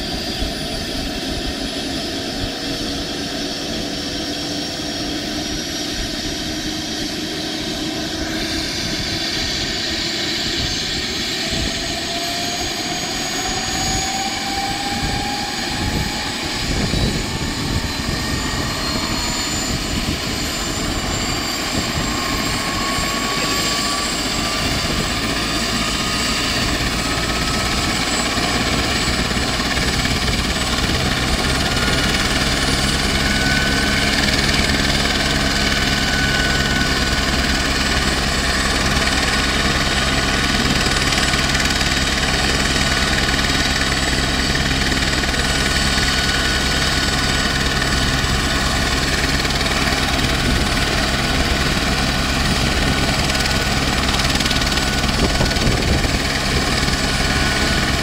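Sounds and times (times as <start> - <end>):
helicopter engine and rotor: 0.0 - 58.0
turbine whine: 0.0 - 58.0.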